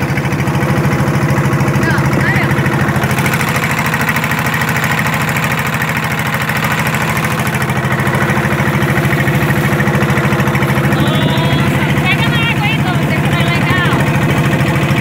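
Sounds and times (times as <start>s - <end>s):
boat motor running: 0.0s - 15.0s
water and wind hissing past hull: 0.2s - 15.0s.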